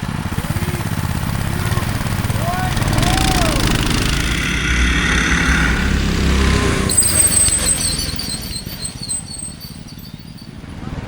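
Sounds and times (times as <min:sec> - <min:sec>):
small gas engine running hard: 0:00.0 - 0:11.0.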